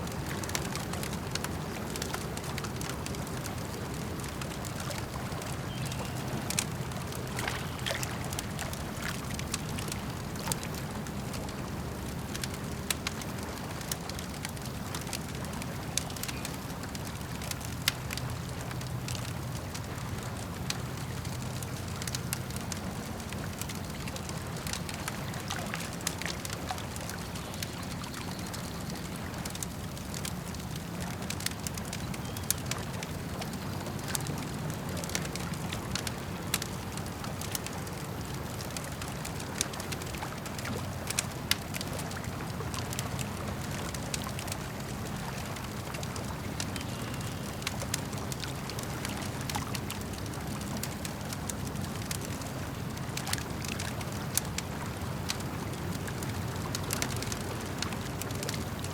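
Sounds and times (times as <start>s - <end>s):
campfire crackling and popping: 0.0s - 58.9s
lake water lapping: 0.0s - 58.9s.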